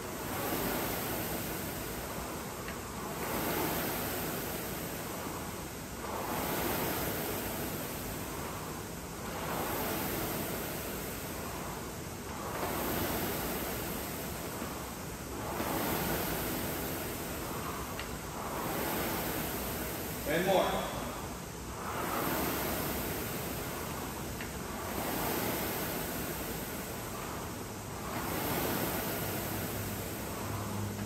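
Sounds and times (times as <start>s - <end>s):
rowing machine flywheel whooshing: 0.0s - 31.0s.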